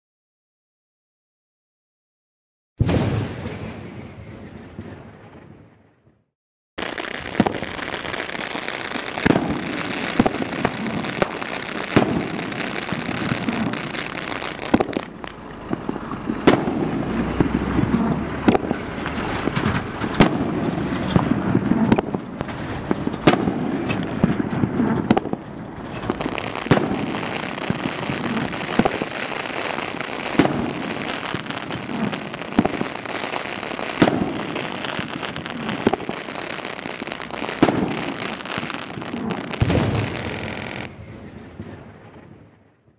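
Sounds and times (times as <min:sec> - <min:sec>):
fireworks launching and bursting: 0:02.8 - 0:05.8, 0:06.8 - 0:42.9.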